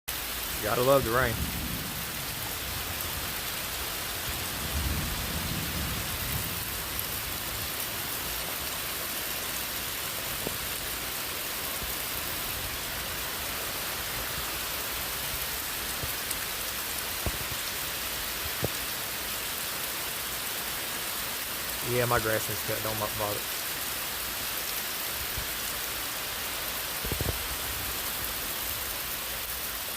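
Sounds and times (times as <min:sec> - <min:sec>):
rain pattering: 0:00.1 - 0:29.9.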